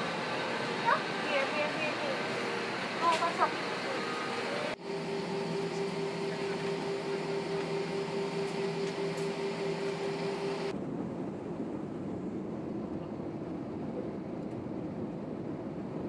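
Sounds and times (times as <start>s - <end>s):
jet airliner cabin noise: 0.0s - 16.0s.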